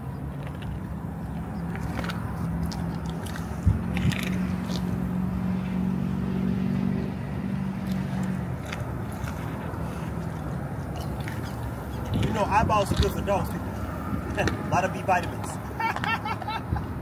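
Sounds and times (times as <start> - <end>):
dog chewing and crunching: 0.0 - 16.2
low engine hum: 0.0 - 17.0.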